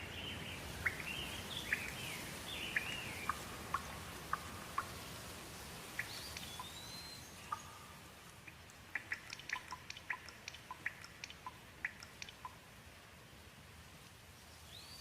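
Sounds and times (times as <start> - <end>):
rain drops plinking: 0.0 - 12.8
faint steady hiss: 0.0 - 15.0.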